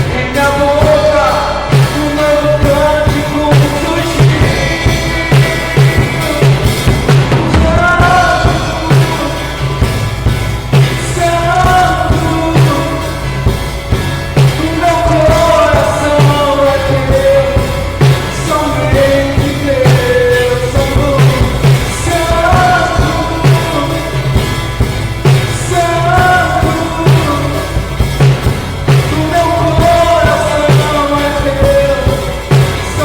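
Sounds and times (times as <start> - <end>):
acoustic guitar: 0.0 - 33.0
drum kit with cymbals: 0.0 - 33.0
man singing: 0.0 - 33.0.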